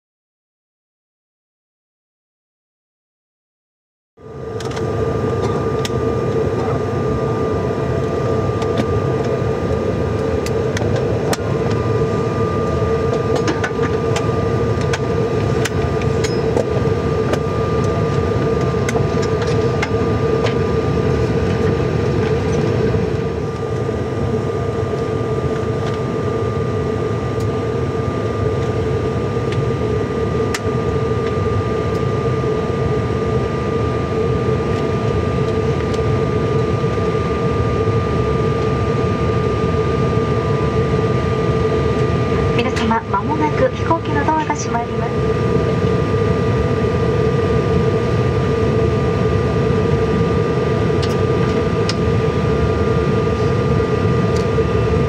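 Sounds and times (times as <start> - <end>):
thin steady whine: 4.2 - 55.0
air conditioning hum: 4.4 - 55.0.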